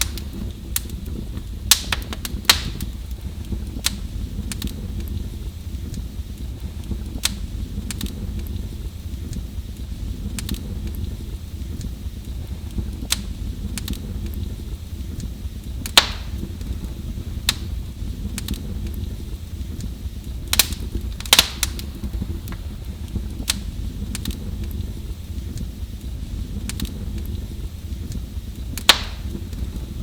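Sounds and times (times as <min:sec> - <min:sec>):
fire crackles and pops: 0:00.0 - 0:30.0
wood fire rumbling: 0:00.0 - 0:30.0.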